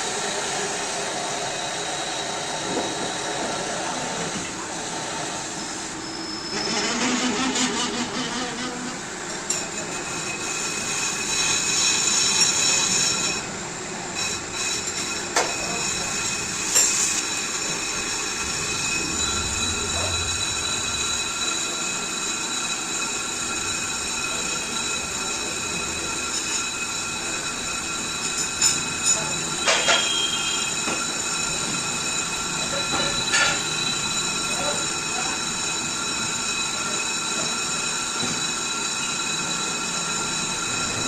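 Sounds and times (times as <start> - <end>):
brake lathe cutting tool squealing: 1.8 - 41.0.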